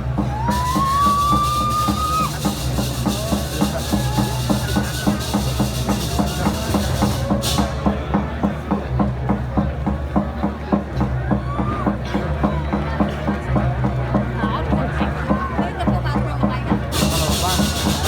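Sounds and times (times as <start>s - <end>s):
gamelan drums beating fast: 0.0s - 18.0s.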